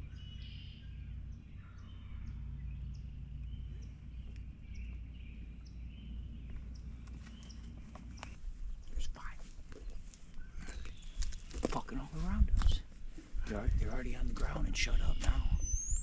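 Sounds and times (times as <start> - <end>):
low rumble: 0.0 - 16.0
songbirds chirping: 0.0 - 16.0.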